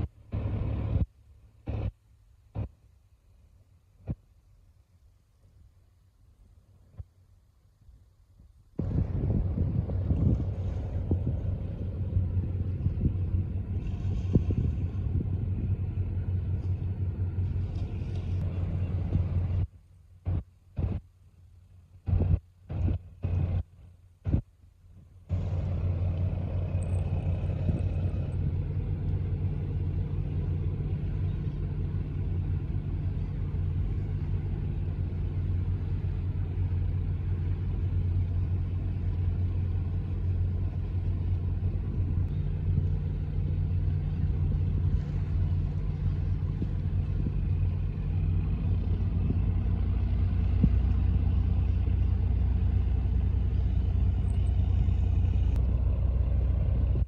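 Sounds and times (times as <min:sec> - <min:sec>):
boat diesel engine humming: 0:00.0 - 0:57.0.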